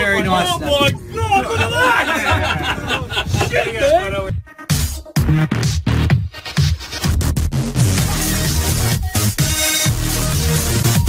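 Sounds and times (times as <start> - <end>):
electronic dance music: 0.3 - 11.0.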